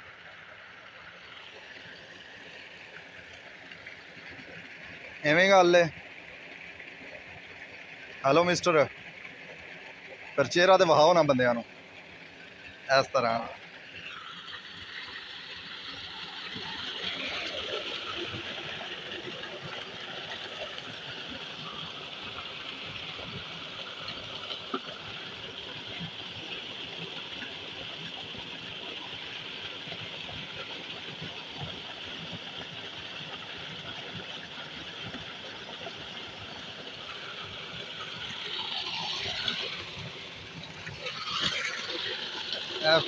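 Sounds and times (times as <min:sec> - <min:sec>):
water gushing and splashing: 0:00.0 - 0:43.0.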